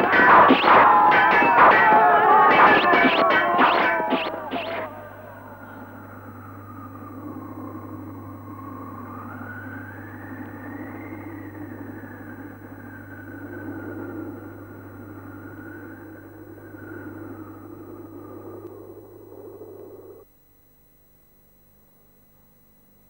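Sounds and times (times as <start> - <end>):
howling wind whistle: 0.0 - 20.2.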